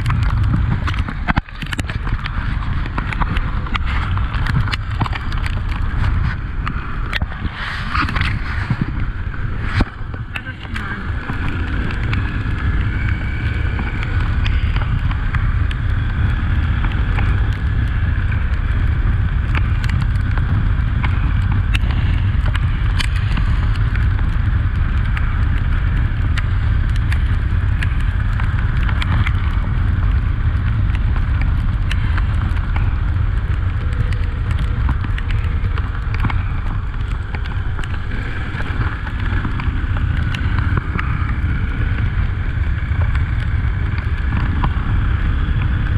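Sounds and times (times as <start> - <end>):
motorcycle engine running: 0.0 - 45.9
wind buffeting the microphone: 0.0 - 45.9.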